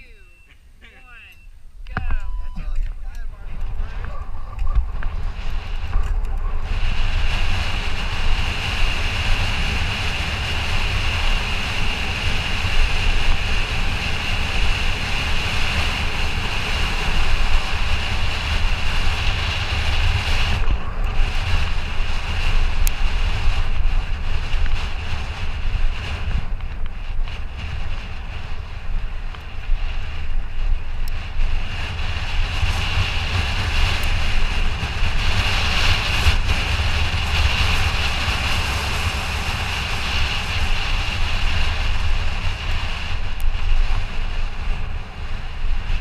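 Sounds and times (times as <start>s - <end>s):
wind buffeting microphone: 0.0s - 46.0s
bike tyres rolling on dirt: 1.5s - 46.0s.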